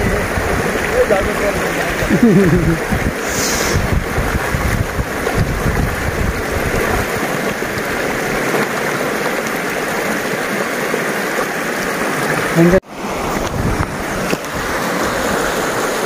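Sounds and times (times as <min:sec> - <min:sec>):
river rushing over stones: 0:00.0 - 0:16.0.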